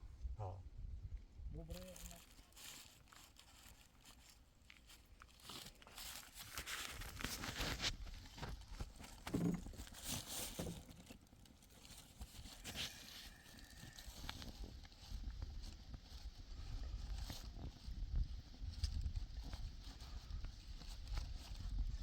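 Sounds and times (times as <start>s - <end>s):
crunching and rustling handling: 1.7s - 22.0s.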